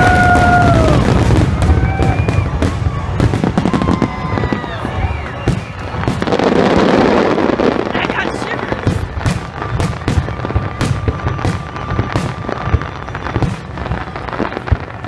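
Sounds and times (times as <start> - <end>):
fireworks bangs and booms: 0.0 - 15.0.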